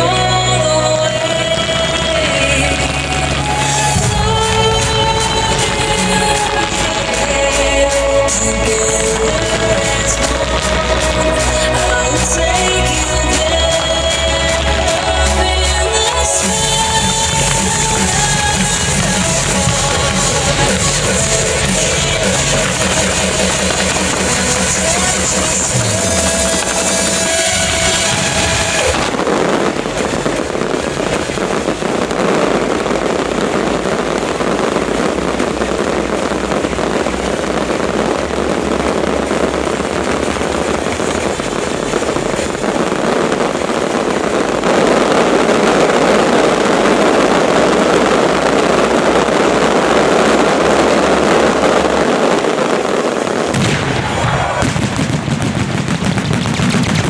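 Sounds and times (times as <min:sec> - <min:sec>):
fireworks barrage crackling: 0:00.0 - 0:57.0.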